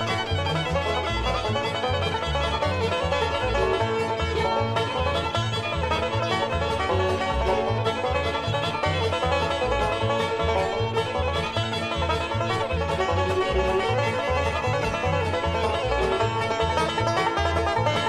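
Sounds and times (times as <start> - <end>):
upbeat bluegrass music: 0.0 - 18.0.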